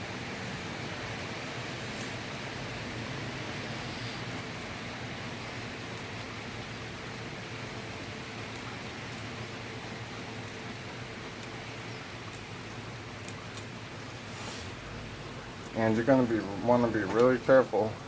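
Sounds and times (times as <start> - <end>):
steady hissing noise: 0.0 - 18.0.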